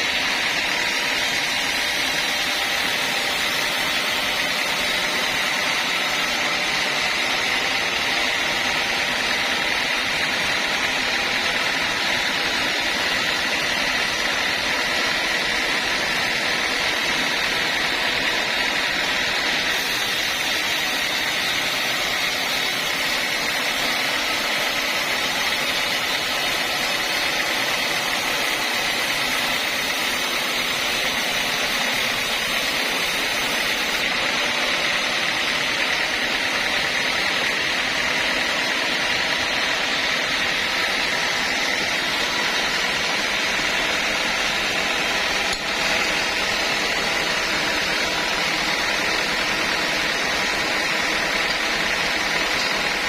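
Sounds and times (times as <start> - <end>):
sawmill saw whining: 0.0 - 53.0.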